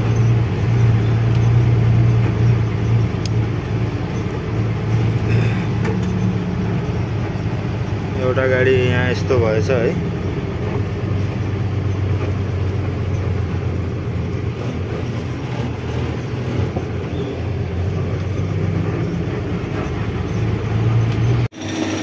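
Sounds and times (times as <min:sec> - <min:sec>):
road noise: 0:00.0 - 0:22.0
truck diesel engine drone: 0:00.0 - 0:22.0.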